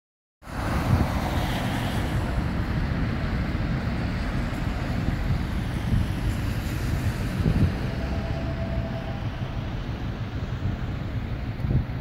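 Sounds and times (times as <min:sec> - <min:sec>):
tyres hissing on wet road: 0:00.4 - 0:12.0
wind buffeting microphone: 0:00.5 - 0:12.0.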